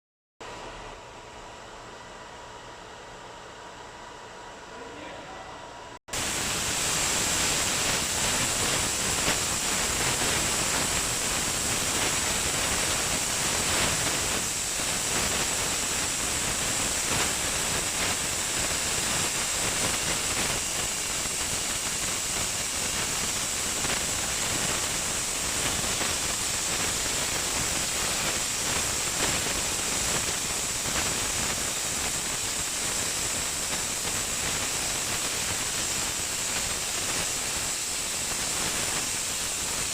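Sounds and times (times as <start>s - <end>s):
cutting torch hissing: 6.1s - 39.9s.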